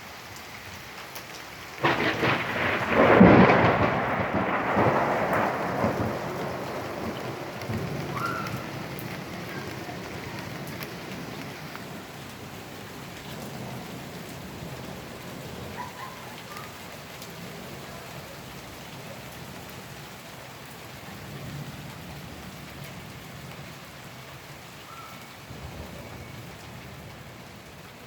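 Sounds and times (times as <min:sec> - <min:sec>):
rain pattering: 0:00.0 - 0:28.0.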